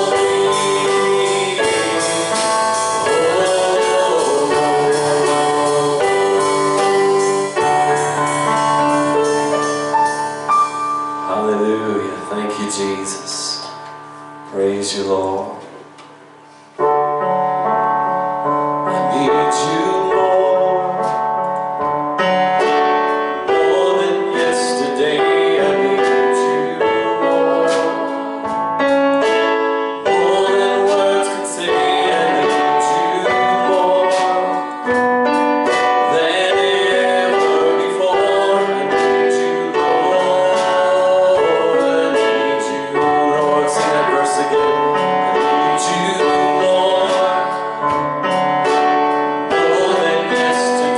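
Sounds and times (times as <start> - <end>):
keyboard chords: 0.0 - 50.9.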